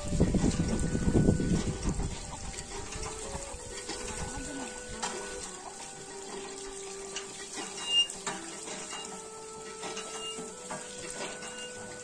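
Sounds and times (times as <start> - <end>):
water gushing into steel bowl: 0.0 - 12.0.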